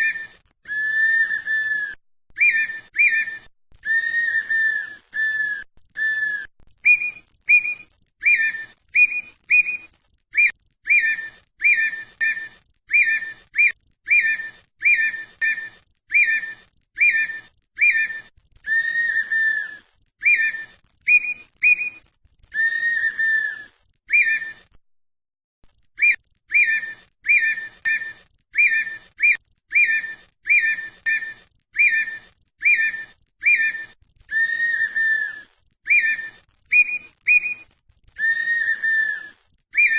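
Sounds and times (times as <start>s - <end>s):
bird whistling song: 0.0s - 24.7s, 26.0s - 39.9s.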